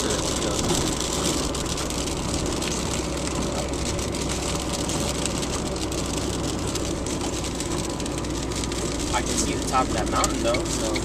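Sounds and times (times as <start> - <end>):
rain pattering on car roof: 0.0 - 11.0
road and engine noise: 0.0 - 11.0.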